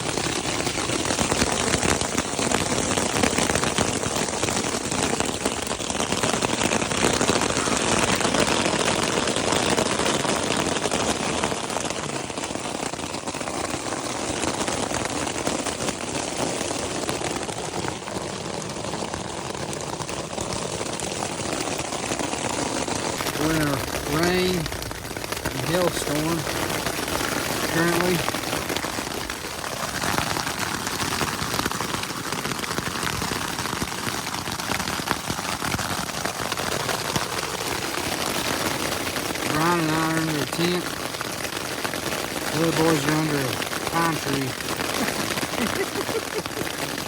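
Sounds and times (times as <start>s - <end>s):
hail pelting a tent: 0.0s - 47.0s.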